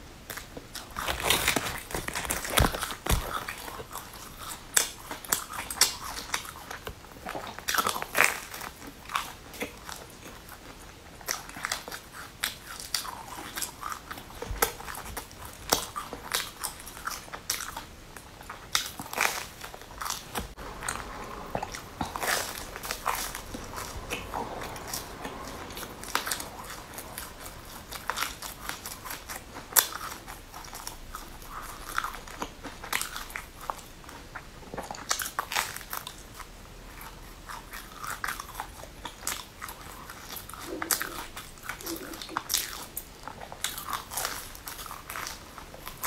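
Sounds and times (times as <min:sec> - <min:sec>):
crunchy biting and chewing: 0:00.3 - 0:46.0.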